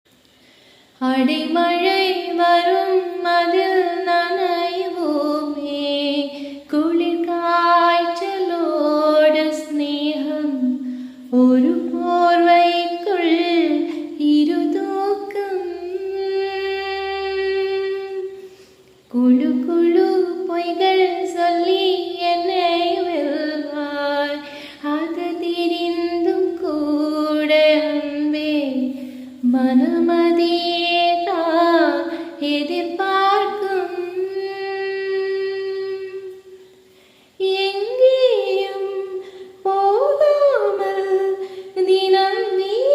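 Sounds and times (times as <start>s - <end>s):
woman singing: 1.0s - 18.4s, 19.1s - 36.6s, 37.4s - 42.9s.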